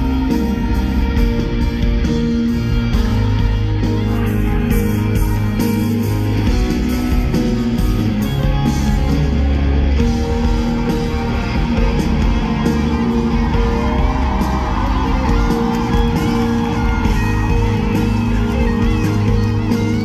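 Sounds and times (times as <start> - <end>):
electric guitar: 0.0 - 20.0
live band music: 0.0 - 20.0.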